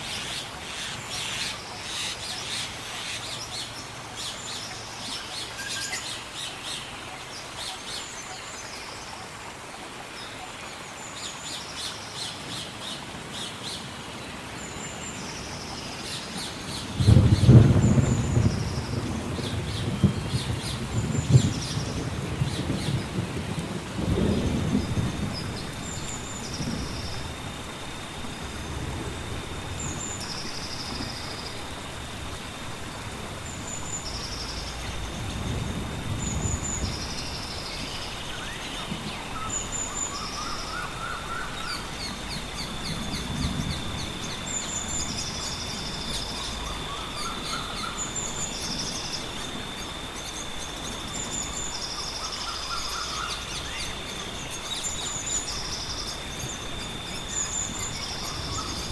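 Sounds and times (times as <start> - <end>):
background hiss: 0.0 - 58.9
high insect drone: 0.0 - 58.9.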